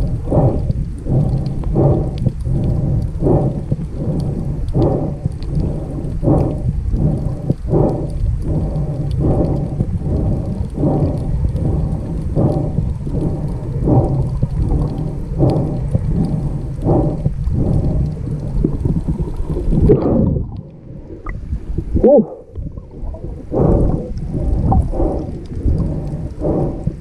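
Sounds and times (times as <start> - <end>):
muffled underwater rumble: 0.0 - 27.0.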